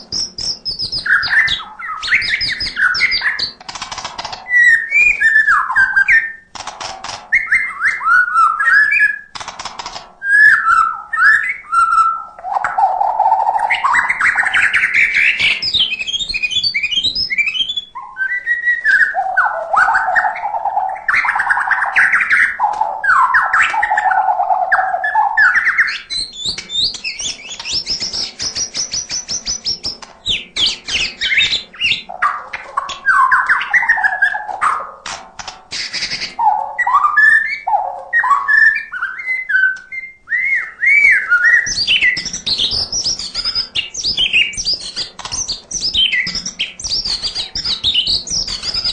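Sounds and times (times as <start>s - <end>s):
songbird singing: 0.0s - 35.1s, 35.7s - 48.9s.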